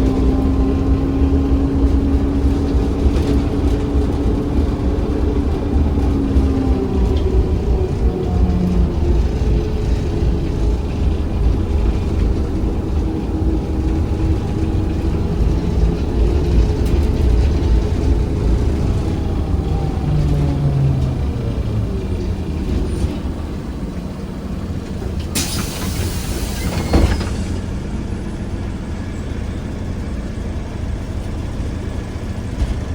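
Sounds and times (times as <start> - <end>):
bus tyres rumbling: 0.0 - 32.9.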